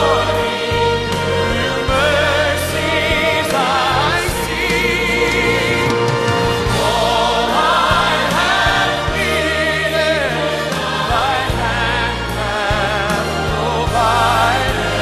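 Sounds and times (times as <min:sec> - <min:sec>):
bass accompaniment: 0:00.0 - 0:15.0
voices singing in harmony: 0:00.0 - 0:15.0.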